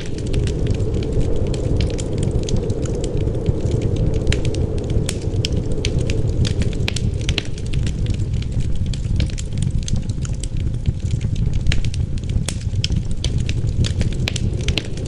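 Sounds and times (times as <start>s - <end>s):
low rush of wind: 0.0s - 15.0s
wood fire crackling and popping: 0.0s - 15.0s.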